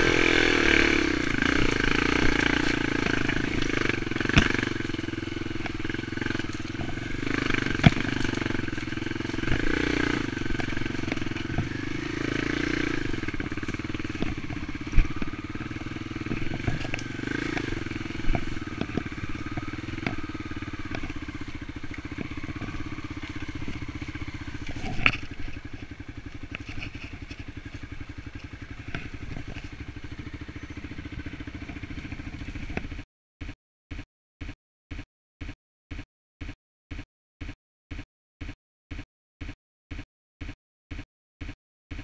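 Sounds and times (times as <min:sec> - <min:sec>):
dirt bike engine running: 0:00.0 - 0:42.0
bike knocks and rattles: 0:00.2 - 0:42.0.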